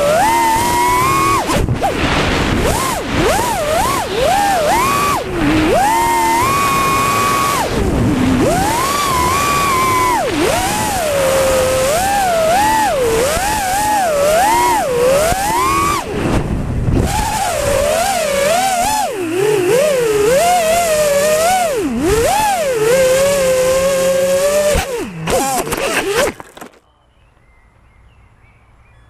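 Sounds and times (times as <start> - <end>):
drone motors whining: 0.0 - 26.8.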